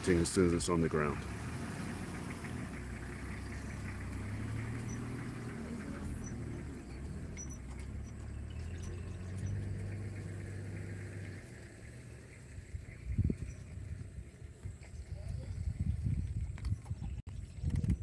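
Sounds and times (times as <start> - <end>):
vehicle engine idling: 0.0 - 17.2.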